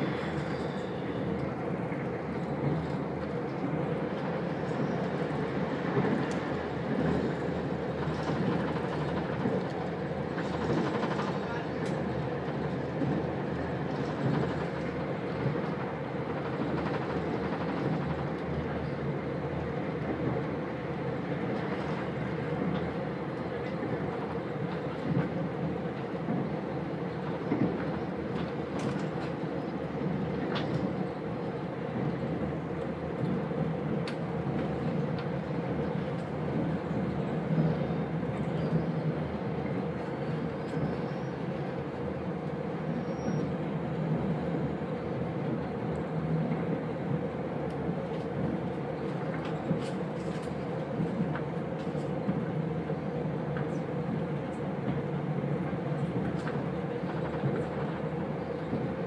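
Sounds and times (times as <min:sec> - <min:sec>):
train rumbling at speed: 0:00.0 - 0:59.0.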